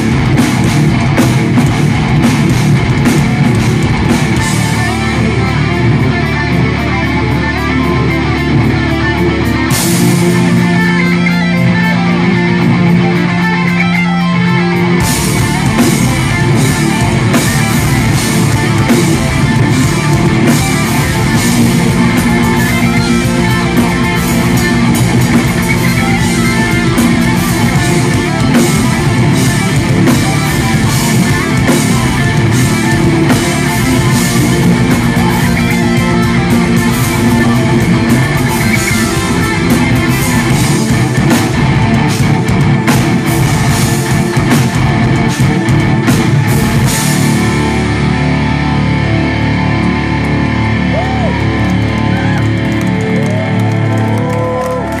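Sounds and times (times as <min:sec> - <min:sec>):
bass guitar: 0:00.0 - 0:55.0
drum kit: 0:00.0 - 0:55.0
electric guitars: 0:00.0 - 0:55.0.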